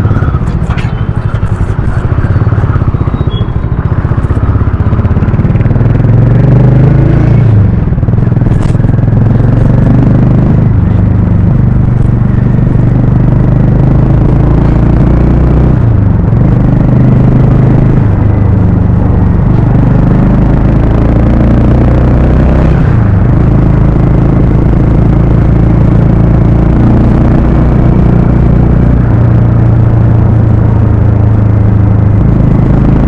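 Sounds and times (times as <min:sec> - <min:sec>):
motorcycle engine and exhaust: 0:00.0 - 0:33.0.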